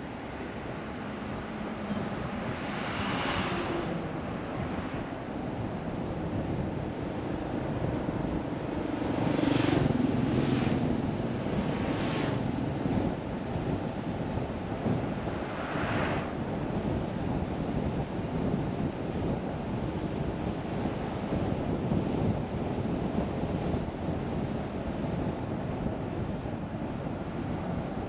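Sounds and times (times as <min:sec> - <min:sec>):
car tyre and wind noise: 0:00.0 - 0:28.0.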